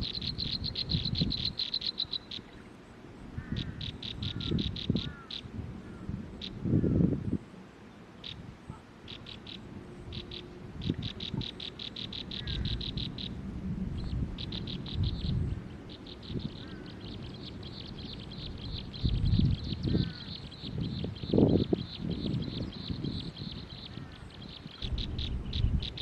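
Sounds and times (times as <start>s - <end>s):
small bird trilling: 0.0s - 2.6s, 3.4s - 5.5s, 9.1s - 13.4s, 14.0s - 26.0s.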